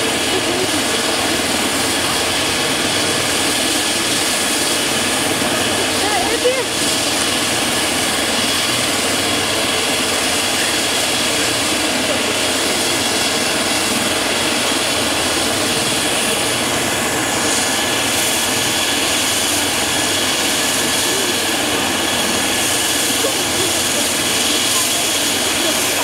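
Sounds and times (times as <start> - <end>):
helicopter turbine whine: 0.0 - 26.0.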